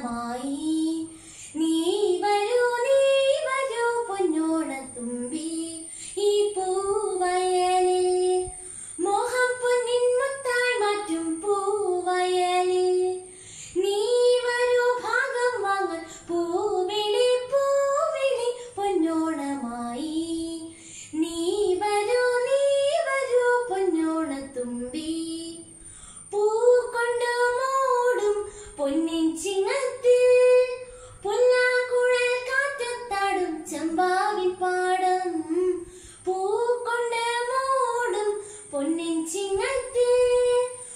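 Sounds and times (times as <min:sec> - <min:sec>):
girl singing unaccompanied: 0:00.0 - 0:40.9.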